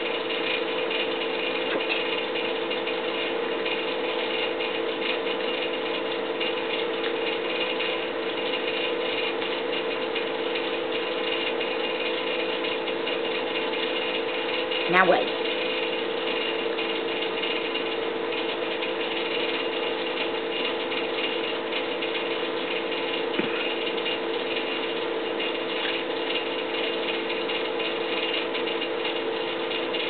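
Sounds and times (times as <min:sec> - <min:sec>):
fast fine rattle: 0:00.0 - 0:30.0
mechanical hum: 0:00.0 - 0:30.0.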